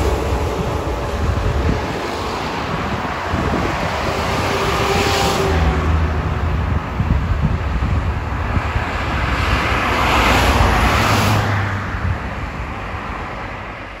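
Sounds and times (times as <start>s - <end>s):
cars passing on highway: 0.0s - 14.0s.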